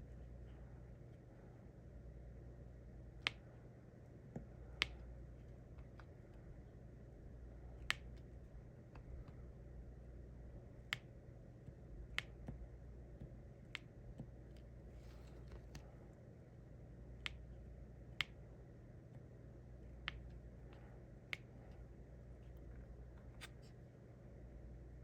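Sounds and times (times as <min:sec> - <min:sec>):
faint room hum: 0:00.0 - 0:25.0.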